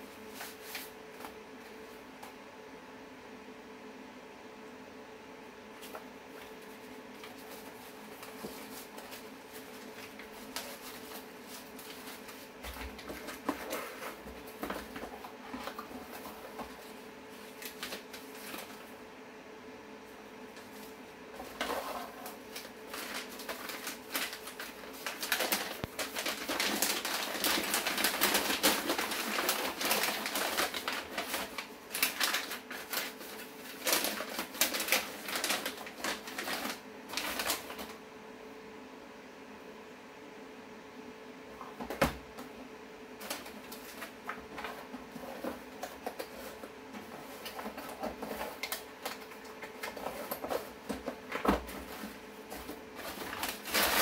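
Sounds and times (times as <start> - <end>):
packing paper rustling: 0.0 - 1.8, 5.8 - 19.0, 20.5 - 38.0, 43.1 - 54.0
faint steady hum: 0.0 - 54.0.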